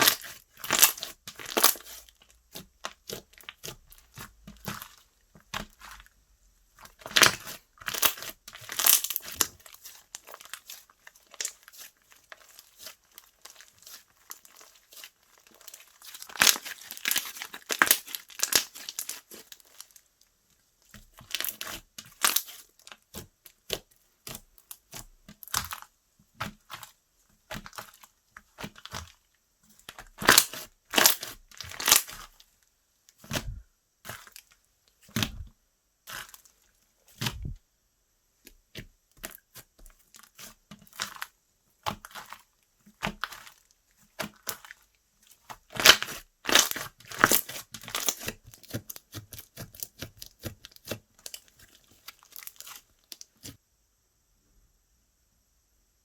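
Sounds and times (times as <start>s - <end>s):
slime squishing and crackling: 0.0s - 20.1s, 20.8s - 37.6s, 38.6s - 53.6s.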